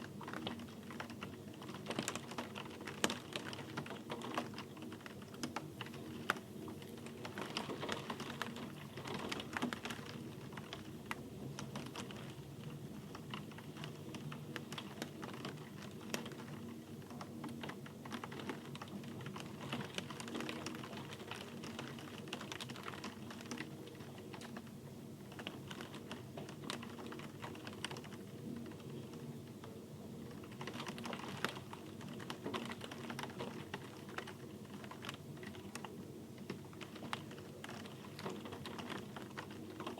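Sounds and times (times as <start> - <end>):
raindrops ticking on hard surface: 0.0 - 39.9.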